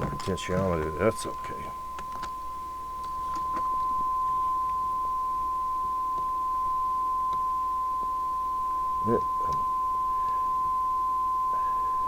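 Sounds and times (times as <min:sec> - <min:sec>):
steady single-pitch test tone: 0:00.0 - 0:12.0.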